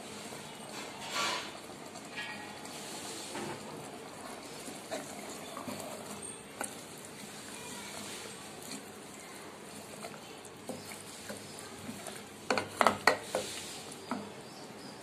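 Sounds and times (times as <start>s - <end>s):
wooden spoon scraping a pot: 0.2s - 15.0s.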